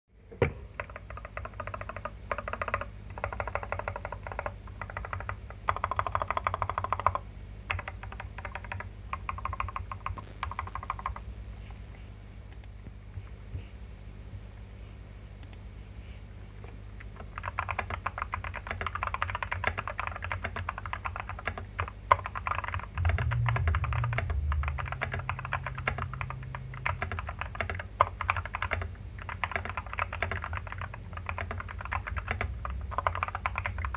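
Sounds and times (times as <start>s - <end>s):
mechanical keyboard typing: 0.7s - 11.2s, 17.1s - 33.9s.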